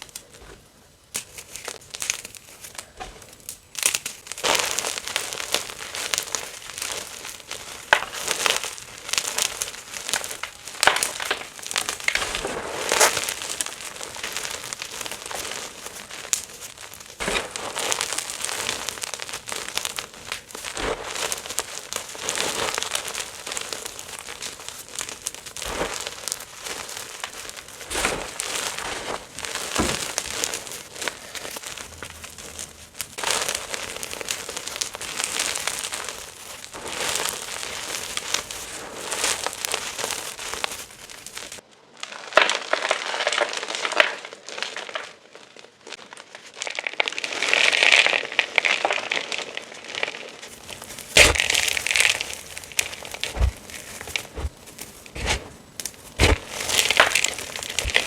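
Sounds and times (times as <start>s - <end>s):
chalk being crushed: 0.0s - 41.6s, 50.4s - 58.0s.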